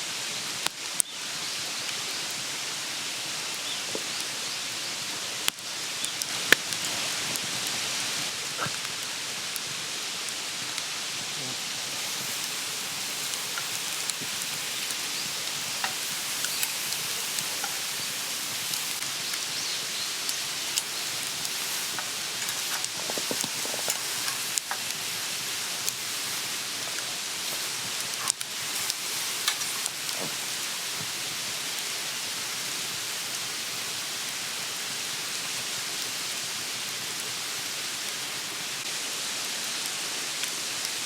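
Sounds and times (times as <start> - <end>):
meat sizzling on a grill: 0.0 - 41.0
wood fire popping and crackling: 0.1 - 39.0.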